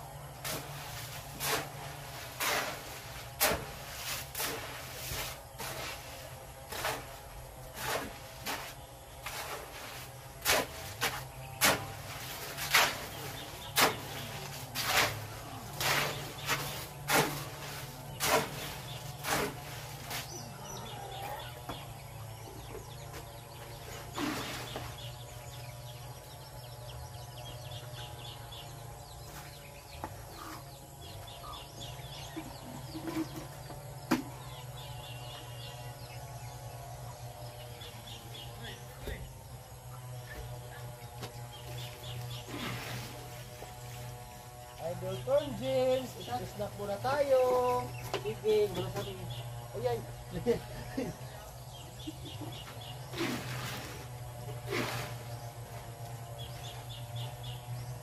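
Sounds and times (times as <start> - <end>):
birds chirping faintly: 0.0 - 58.0
steady low hum: 0.0 - 58.0.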